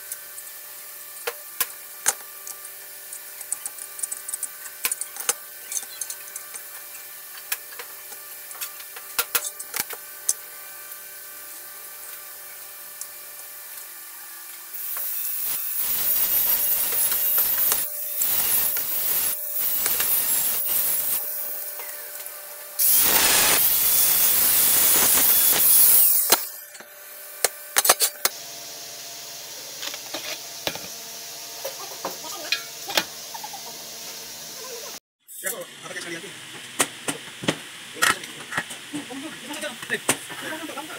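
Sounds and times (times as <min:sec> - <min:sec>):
power tool working material: 0:00.0 - 0:35.0.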